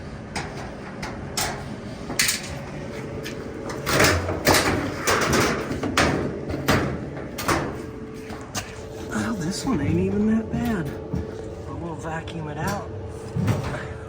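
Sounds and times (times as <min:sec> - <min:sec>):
sheet-metal panels clanking: 0:00.0 - 0:11.7, 0:12.6 - 0:14.0.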